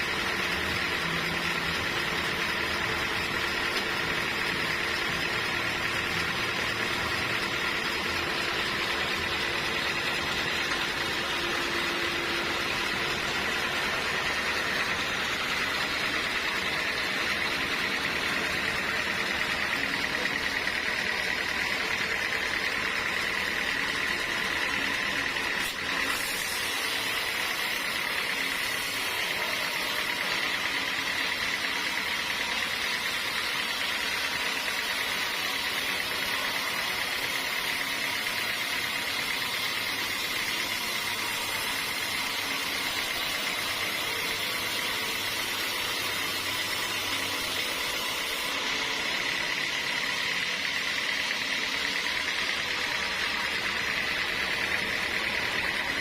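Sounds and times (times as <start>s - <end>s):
sawmill saw whining: 0.0s - 56.0s.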